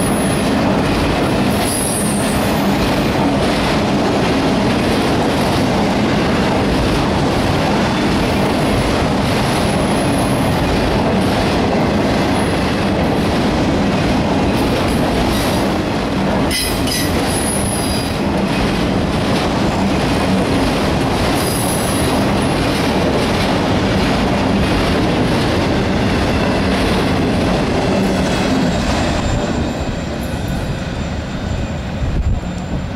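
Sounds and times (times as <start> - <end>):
clickety-clack on rails: 0.0 - 32.9
train wheels rumbling: 0.0 - 32.9.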